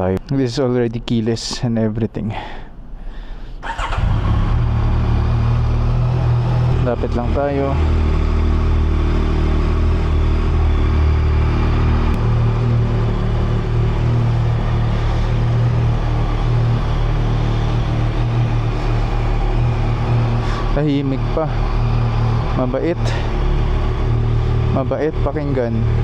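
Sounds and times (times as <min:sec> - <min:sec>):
motorcycle engine idling: 0:03.6 - 0:26.0.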